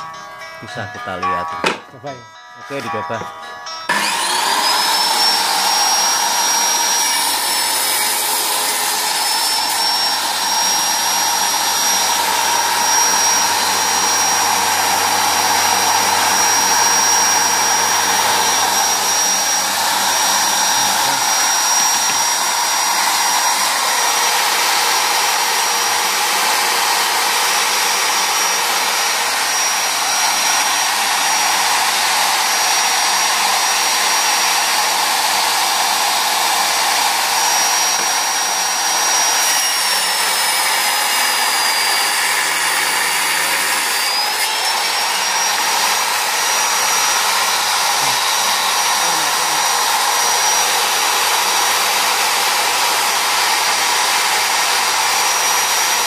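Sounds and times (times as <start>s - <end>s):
circular saw whining: 0.0s - 56.0s.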